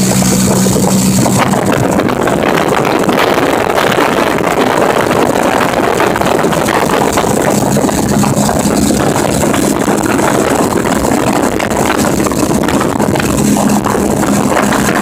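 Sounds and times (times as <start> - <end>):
motorcycle engine hum: 0.0 - 15.0
wind rushing over microphone: 0.0 - 15.0.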